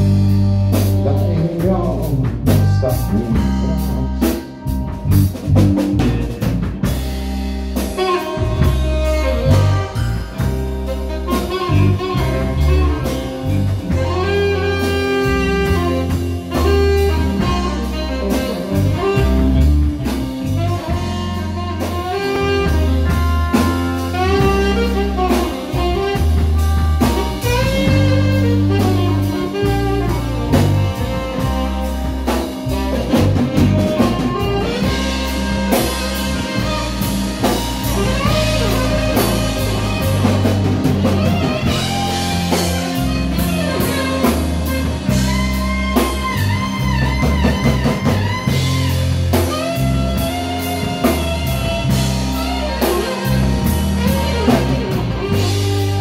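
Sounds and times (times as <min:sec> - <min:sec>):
bass guitar: 0:00.0 - 0:56.0
drum kit: 0:00.0 - 0:56.0
electric guitar: 0:00.0 - 0:56.0
saxophone solo: 0:00.0 - 0:56.0.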